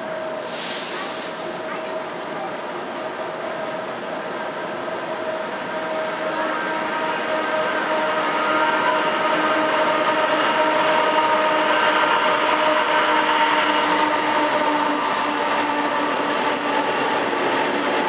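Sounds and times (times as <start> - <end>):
diesel locomotive passing: 0.0 - 18.0
freight cars rumbling on rails: 0.0 - 18.0.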